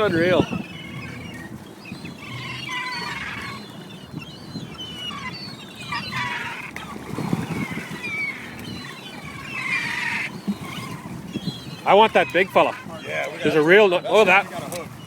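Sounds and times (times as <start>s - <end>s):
seabirds calling: 0.0s - 15.0s
water splashing: 0.0s - 15.0s.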